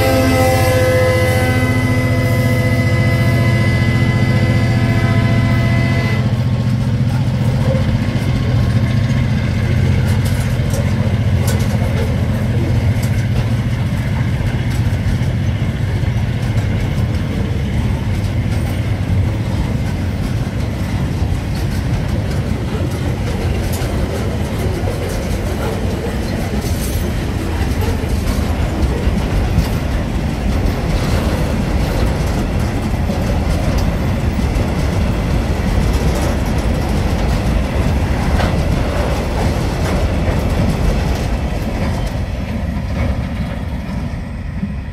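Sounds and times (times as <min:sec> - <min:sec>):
clickety-clack over rail joints: 0:00.0 - 0:44.9
locomotive engine drone: 0:00.0 - 0:44.9
train wheels rumbling on rail: 0:00.0 - 0:44.9.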